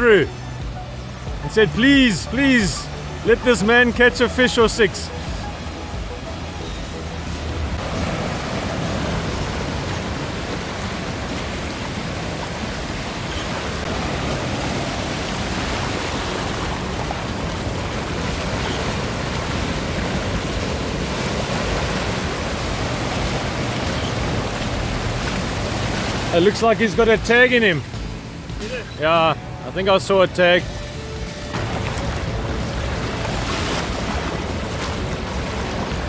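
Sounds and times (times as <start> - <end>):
waves washing over sand: 1.2 - 36.0.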